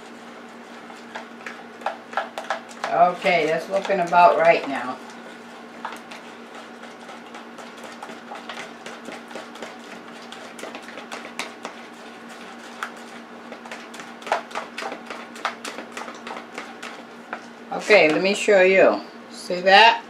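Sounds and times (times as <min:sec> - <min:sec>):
utensil stirring batter in bowl: 0:00.0 - 0:18.8.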